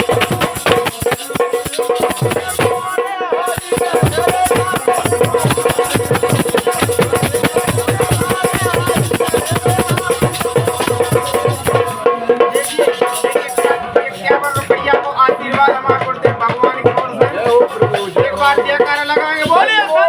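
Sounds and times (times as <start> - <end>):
fast steady drumbeat: 0.0 - 20.0
rattling jingle percussion: 0.0 - 20.0.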